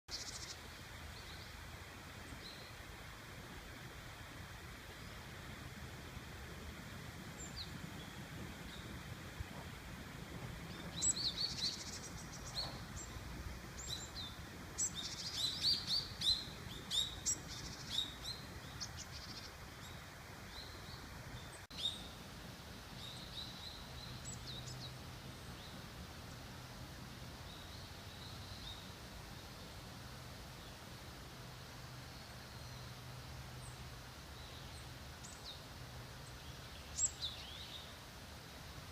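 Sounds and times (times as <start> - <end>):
small songbirds chirping: 0.1 - 38.9.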